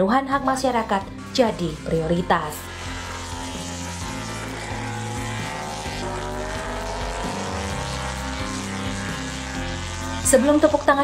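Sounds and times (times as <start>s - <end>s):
racing motorcycle engine high revs: 0.6s - 11.0s.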